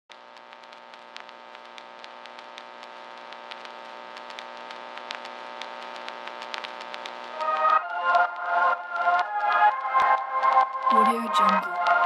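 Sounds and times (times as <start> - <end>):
crackling clicks: 0.1 - 12.0.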